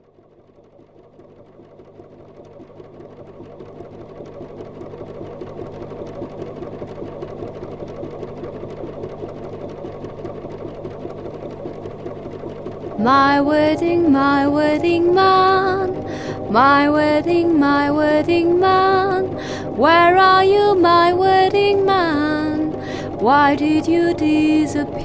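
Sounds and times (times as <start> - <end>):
sewing machine stitching: 0.1 - 25.0.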